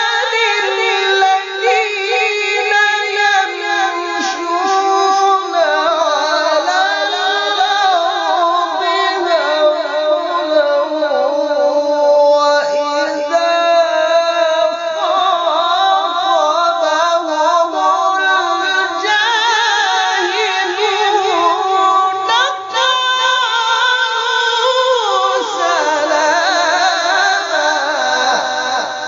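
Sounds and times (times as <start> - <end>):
man chanting in a high register: 0.0 - 29.0.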